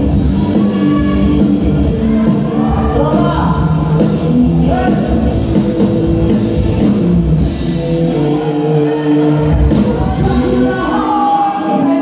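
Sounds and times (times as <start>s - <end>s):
live band playing amplified music: 0.0s - 12.0s.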